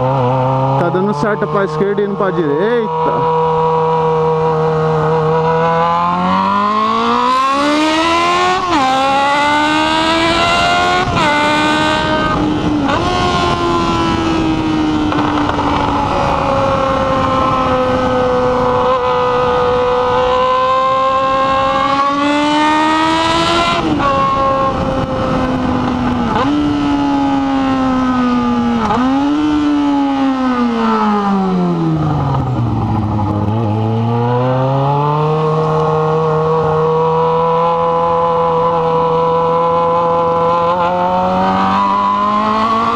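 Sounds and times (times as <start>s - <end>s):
motorcycle engine upshifting: 0.0s - 42.9s.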